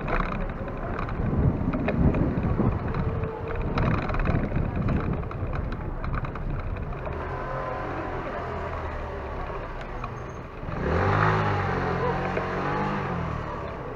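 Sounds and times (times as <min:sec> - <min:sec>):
motor scooter engine revving: 0:00.0 - 0:13.9
street noise: 0:00.0 - 0:13.9.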